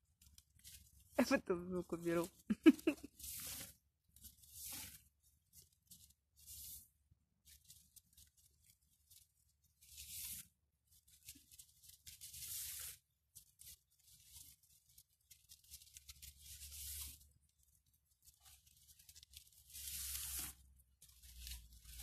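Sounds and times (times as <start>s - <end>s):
leaves rustling: 0.2s - 6.8s, 7.4s - 22.0s.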